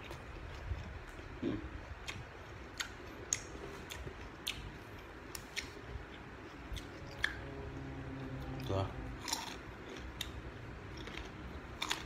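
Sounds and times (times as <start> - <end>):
person chewing crunchy food: 0.0 - 7.5, 8.6 - 12.0.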